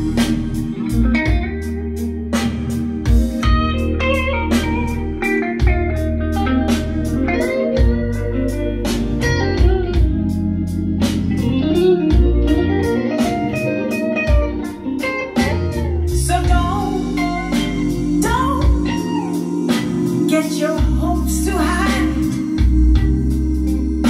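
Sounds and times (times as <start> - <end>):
bass: 0.0 - 24.0
electric guitar: 0.0 - 24.0
steady drum beat: 0.0 - 24.0.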